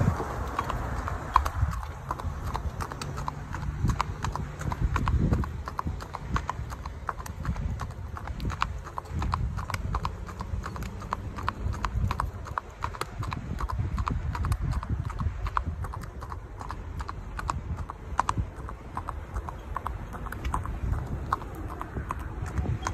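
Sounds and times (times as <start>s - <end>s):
horse hooves clip-clopping on asphalt: 0.0s - 22.9s.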